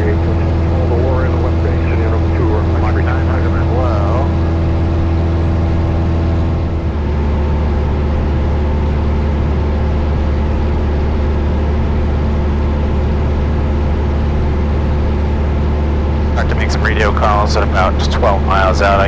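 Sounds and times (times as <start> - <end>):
light aircraft cabin drone: 0.0 - 19.0.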